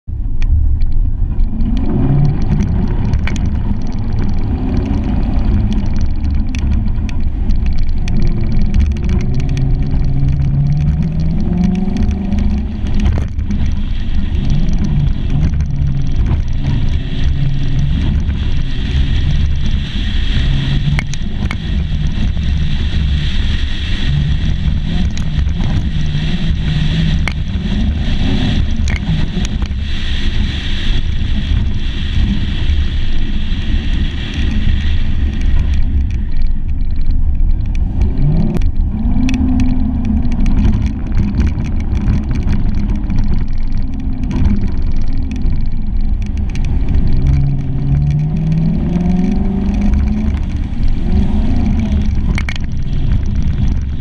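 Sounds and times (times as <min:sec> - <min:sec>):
heavy road rumble: 0:00.0 - 0:54.0
sharp ticks: 0:00.4 - 0:54.0.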